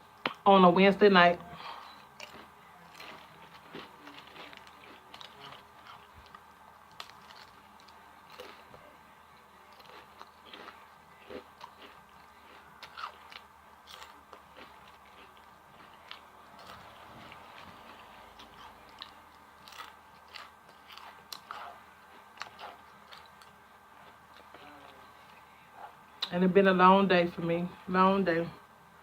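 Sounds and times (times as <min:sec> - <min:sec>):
person chewing and crunching food: 0:01.5 - 0:26.3.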